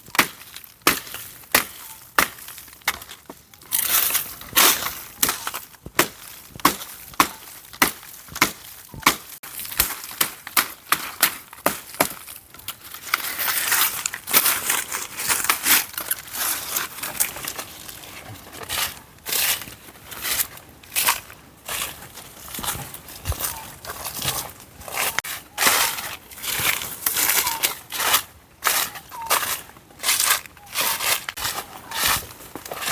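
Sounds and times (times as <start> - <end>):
dry wood and leaves crunching: 0.0 - 32.9.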